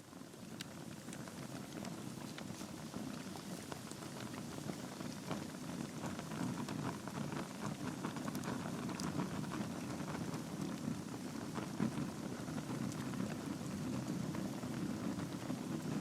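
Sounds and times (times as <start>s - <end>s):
low rush of flame: 0.0s - 16.0s
logs crackling and popping: 0.2s - 16.0s.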